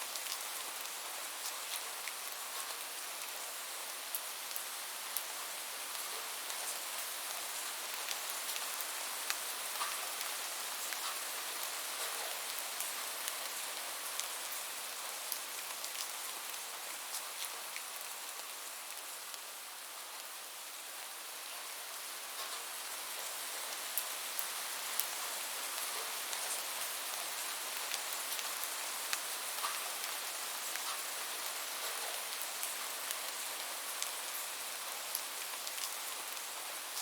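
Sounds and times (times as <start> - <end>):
steady rainfall hiss: 0.0 - 37.0
raindrops ticking on a surface: 0.1 - 20.7, 22.3 - 37.0.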